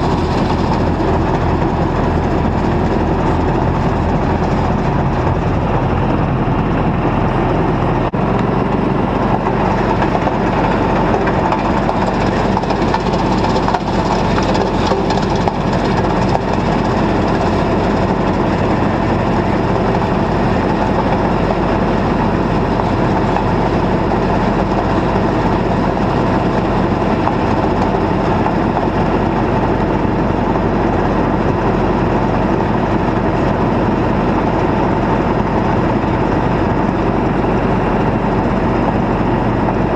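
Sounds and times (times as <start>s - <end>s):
constant rattle: 0.0s - 39.9s
tractor diesel engine running: 0.0s - 39.9s.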